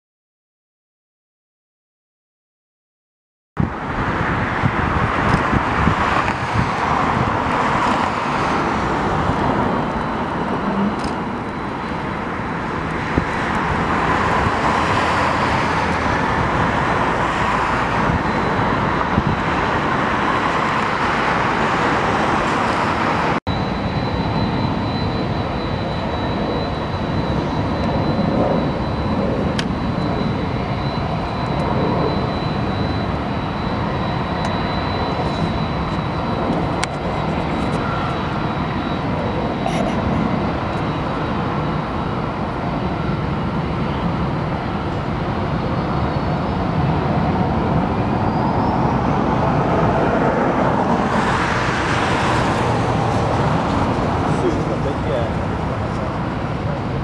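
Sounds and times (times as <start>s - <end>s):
high-pitched whine: 3.6s - 57.0s
jet engines roaring: 3.6s - 57.0s.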